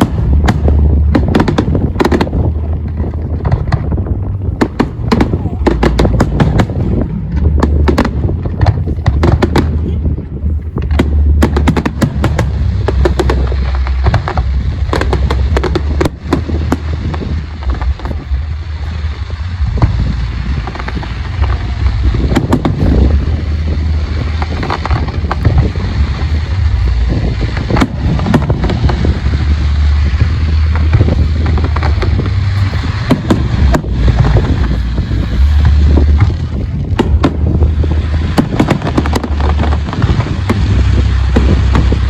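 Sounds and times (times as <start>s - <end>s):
fireworks banging and crackling: 0.0s - 42.0s
wind rumble on microphone: 0.0s - 42.0s.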